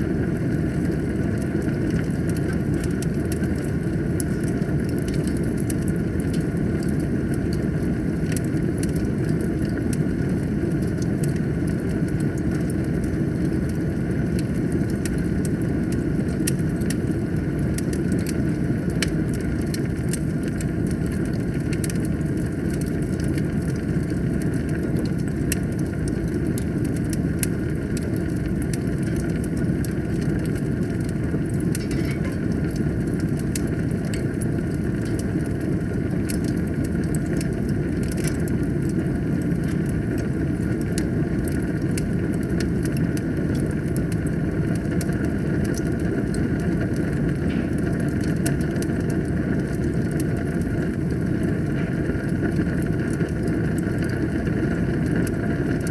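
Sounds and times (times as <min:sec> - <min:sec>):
fire crackling and popping: 0:00.0 - 0:55.9
fire flames rumbling: 0:00.0 - 0:55.9.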